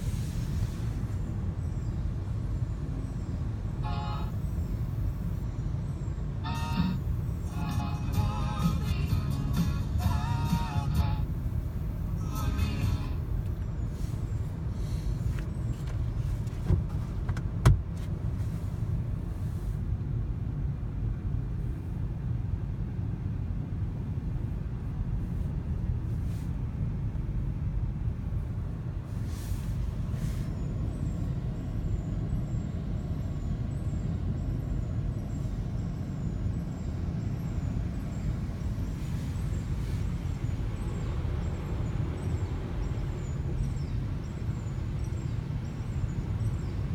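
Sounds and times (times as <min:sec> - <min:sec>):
muffled car wash rumble: 0:00.0 - 0:46.9.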